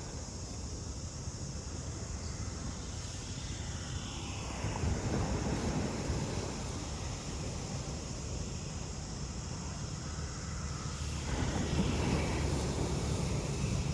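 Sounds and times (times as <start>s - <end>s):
wind: 0.0s - 13.9s.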